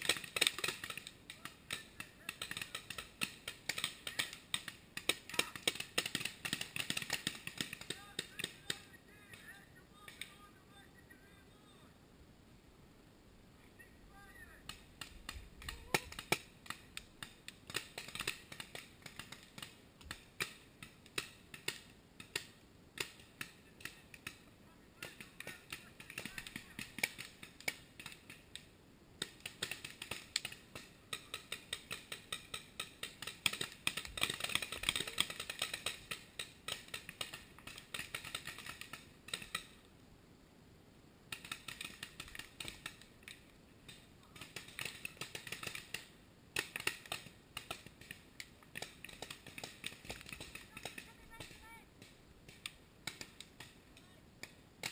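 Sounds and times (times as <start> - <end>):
paintball markers firing: 0.0 - 10.3, 14.6 - 39.8, 41.3 - 54.9.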